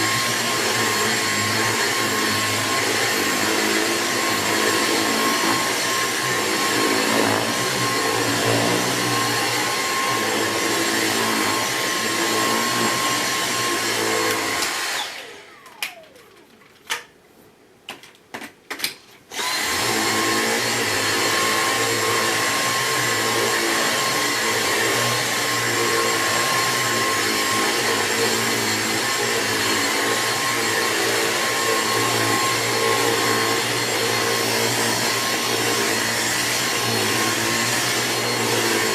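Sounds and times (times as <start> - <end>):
cordless vacuum running: 0.0 - 16.4, 19.3 - 38.9.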